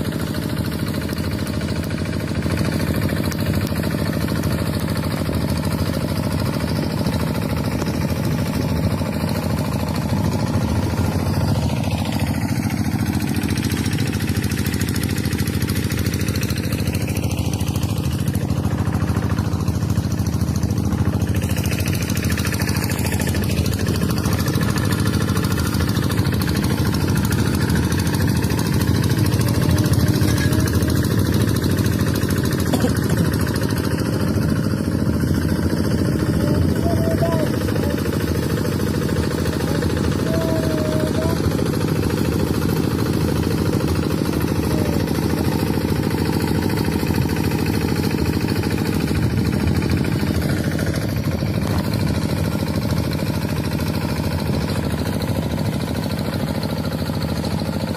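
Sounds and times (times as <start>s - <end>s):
tractor engine chugging: 0.0s - 57.9s.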